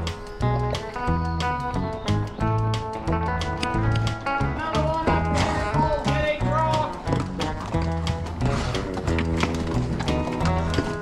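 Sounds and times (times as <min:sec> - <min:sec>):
background music with bass and beat: 0:00.0 - 0:11.0.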